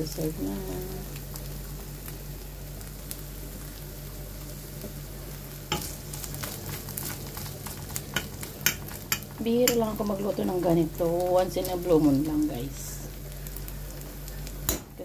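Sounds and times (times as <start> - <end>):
beef sizzling in a pan: 0.0 - 15.0.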